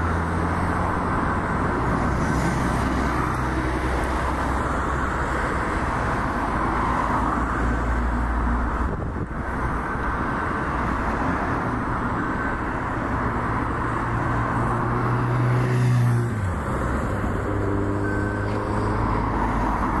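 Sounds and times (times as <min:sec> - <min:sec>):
highway traffic noise: 0:00.0 - 0:20.0.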